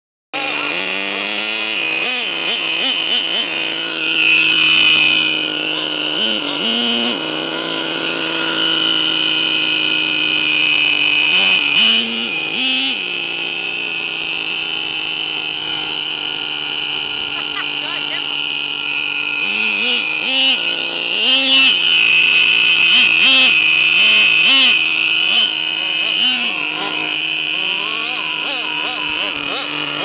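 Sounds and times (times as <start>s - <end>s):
model truck engine droning: 0.4s - 30.0s.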